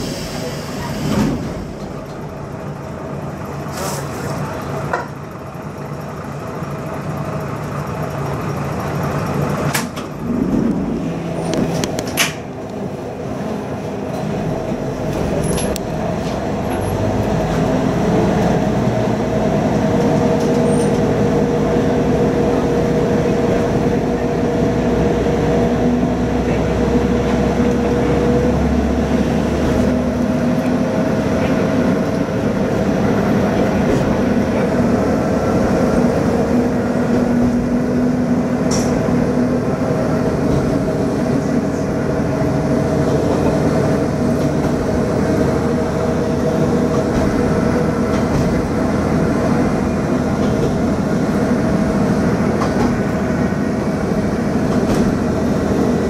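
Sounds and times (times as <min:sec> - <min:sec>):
diesel railcar engine: 0:00.0 - 0:56.0.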